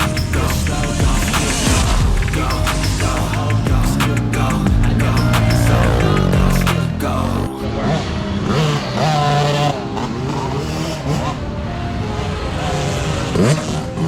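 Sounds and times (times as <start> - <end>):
dirt bike engines revving: 0.0 - 11.4.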